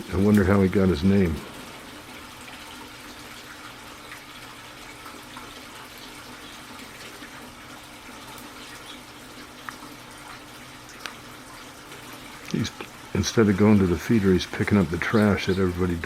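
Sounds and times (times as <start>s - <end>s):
garden fountain splashing: 0.0s - 16.0s
low steady hum: 0.0s - 16.0s.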